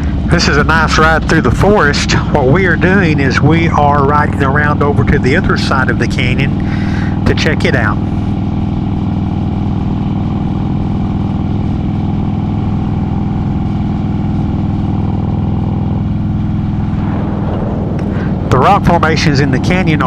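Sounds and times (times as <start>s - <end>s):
motorcycle engine cruising: 0.0s - 20.0s
road and wind noise: 0.0s - 20.0s.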